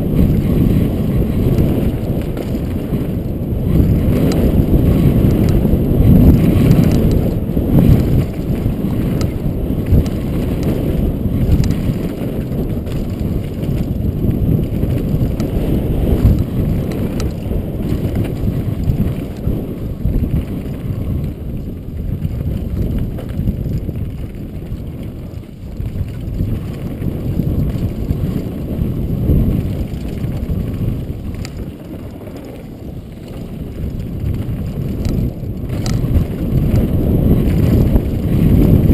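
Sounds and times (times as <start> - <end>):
bike rattling over stones: 0.0 - 38.9
wind noise on microphone: 0.0 - 38.9.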